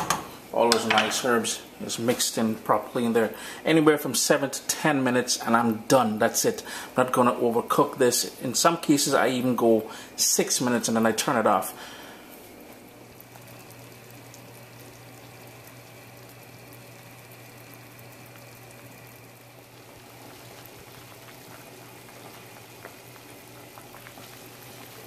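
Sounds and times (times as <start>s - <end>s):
pot boiling and bubbling: 0.0s - 25.0s.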